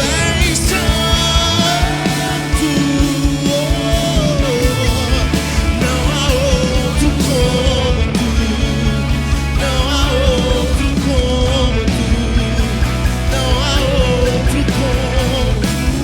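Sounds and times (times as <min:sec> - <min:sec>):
bass: 0:00.0 - 0:16.0
drums keeping steady beat: 0:00.0 - 0:16.0
wavering melodic lead line: 0:00.0 - 0:16.0.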